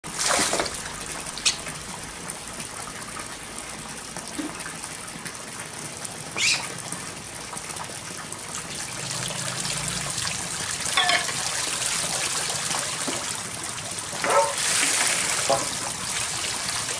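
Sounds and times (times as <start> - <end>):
water gushing: 0.0 - 16.9.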